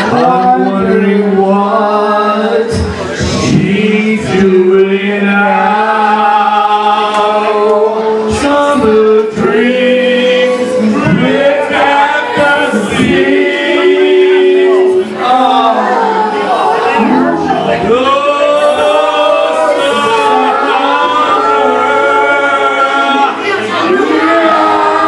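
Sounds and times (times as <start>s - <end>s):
backing music: 0.0s - 25.0s
people singing karaoke: 0.0s - 25.0s.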